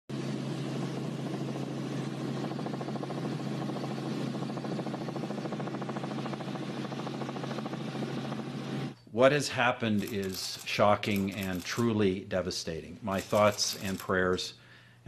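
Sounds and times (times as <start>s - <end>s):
helicopter engine and rotor drone: 0.1s - 9.0s, 9.9s - 11.9s, 13.2s - 14.4s.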